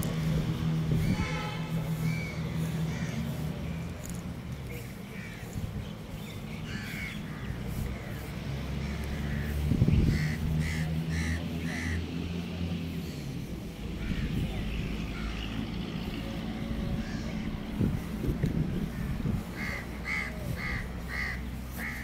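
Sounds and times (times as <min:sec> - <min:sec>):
birds calling: 0:00.0 - 0:22.0
steady low rumble: 0:00.0 - 0:22.0.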